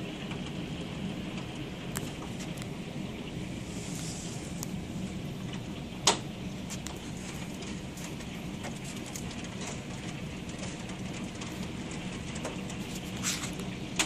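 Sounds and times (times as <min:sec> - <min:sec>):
heavy hail falling: 0:00.0 - 0:14.0.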